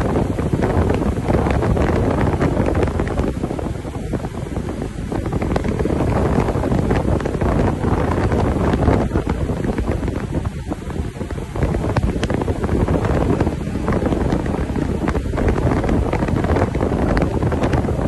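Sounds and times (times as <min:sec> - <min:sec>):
watercraft engine running: 0:00.0 - 0:18.0
wind buffeting microphone: 0:00.0 - 0:18.0.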